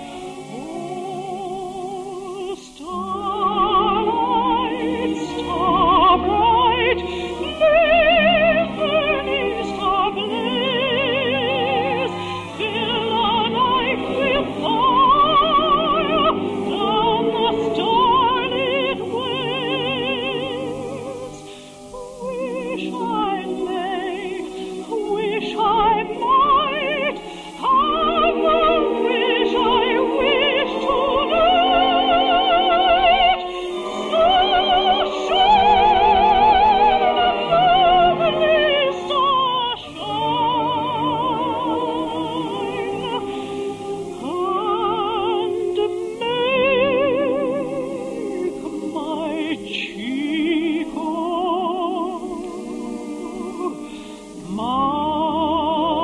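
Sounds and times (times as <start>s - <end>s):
operatic singing with vibrato: 0.0s - 56.0s
orchestral accompaniment: 0.0s - 56.0s.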